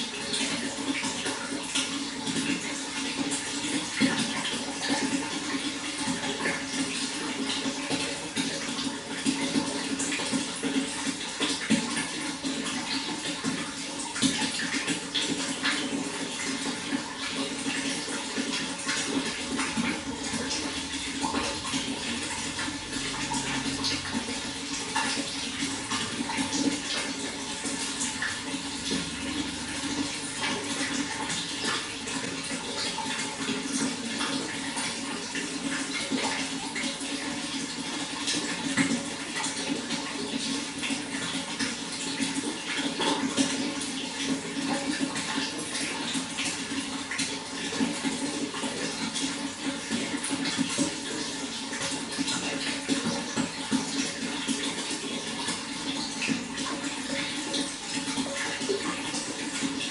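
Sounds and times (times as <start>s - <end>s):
running water splashing: 0.0s - 59.9s
water dripping: 0.0s - 59.9s.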